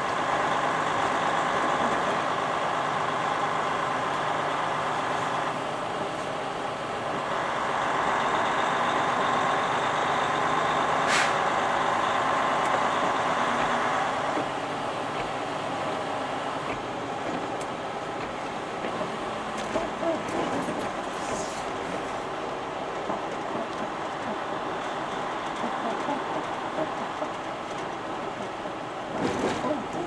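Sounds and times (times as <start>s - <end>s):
truck engine and road noise: 0.0s - 30.0s.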